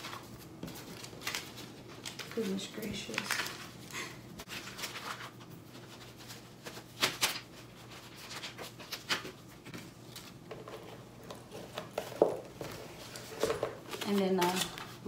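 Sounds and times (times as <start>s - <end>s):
banknotes rustling and snapping: 0.0s - 15.0s.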